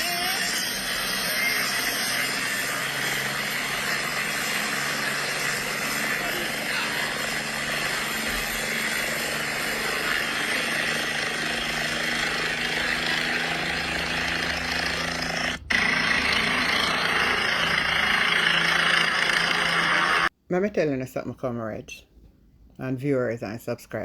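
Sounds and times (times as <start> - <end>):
helicopter turbine and rotor noise: 0.0 - 20.3
low hum: 0.0 - 20.3.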